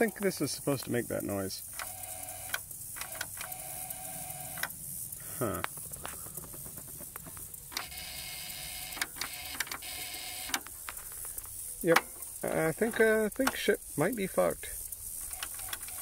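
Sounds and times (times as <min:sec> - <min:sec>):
electrical whirring: 0:00.0 - 0:16.0.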